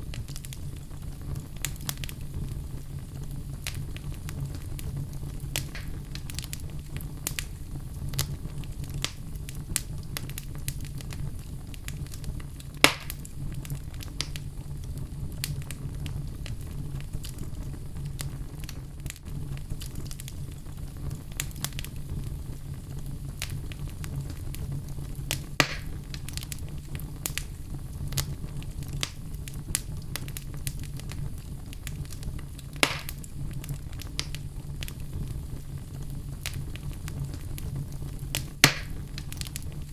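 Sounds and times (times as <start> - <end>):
fire popping loudly: 0.0 - 39.9
wood fire crackling: 0.0 - 39.9.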